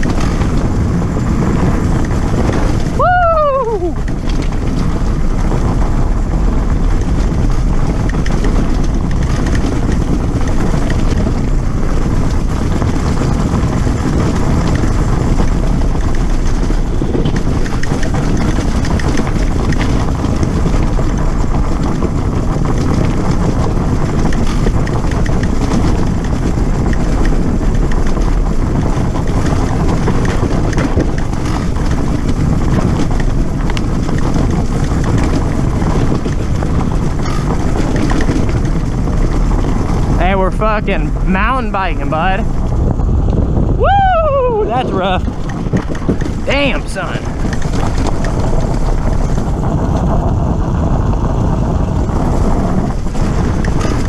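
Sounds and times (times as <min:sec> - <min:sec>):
dirt bike engine running: 0:00.0 - 0:54.0
wind buffeting microphone: 0:00.0 - 0:54.0.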